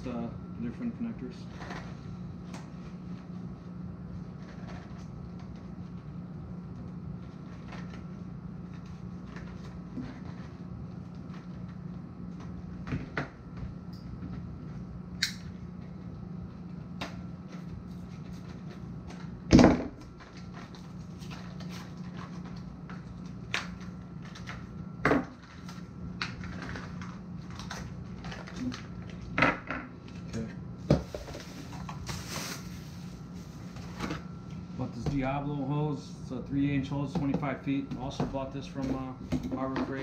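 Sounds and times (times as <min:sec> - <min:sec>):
air compressor humming: 0:00.0 - 0:40.0.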